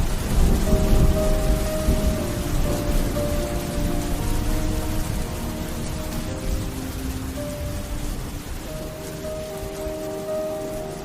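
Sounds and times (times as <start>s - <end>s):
soft background music: 0.0s - 11.0s
steady rain: 0.0s - 11.0s.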